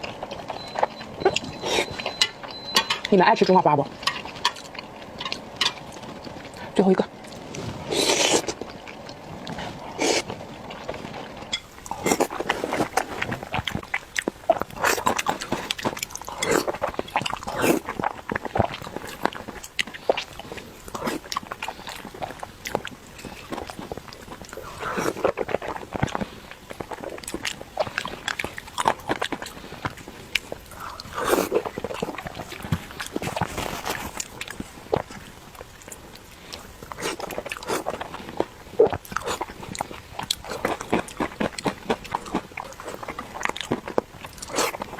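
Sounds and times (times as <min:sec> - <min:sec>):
person chewing with wet smacking: 0:00.0 - 0:44.9.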